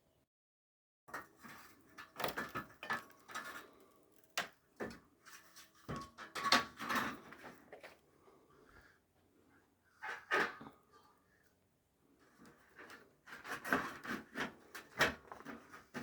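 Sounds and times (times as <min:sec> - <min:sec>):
knocks and scrapes of building work: 0:01.1 - 0:16.0.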